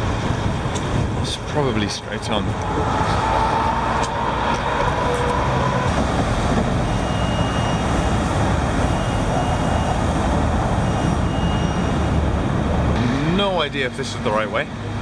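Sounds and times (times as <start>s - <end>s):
road traffic rushing past: 0.0s - 15.0s.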